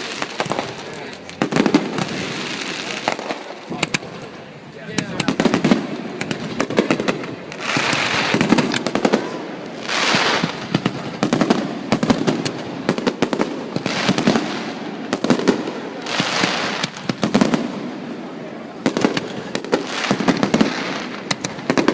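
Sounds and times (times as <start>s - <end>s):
fireworks crackling: 0.0s - 21.9s
fireworks hissing: 0.0s - 21.9s.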